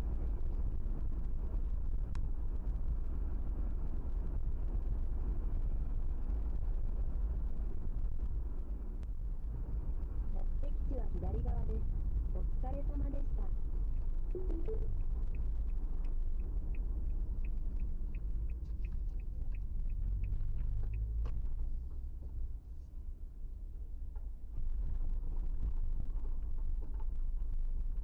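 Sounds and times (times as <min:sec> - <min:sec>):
engine and road rumble: 0:00.0 - 0:28.0.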